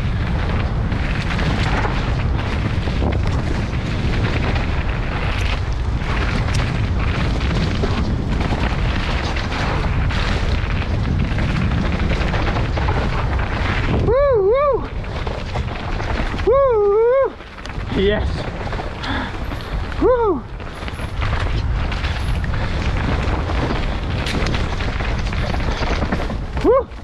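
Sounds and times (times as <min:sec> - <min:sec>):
bike rumbling and rattling: 0:00.0 - 0:27.0
wind buffeting microphone: 0:00.0 - 0:27.0.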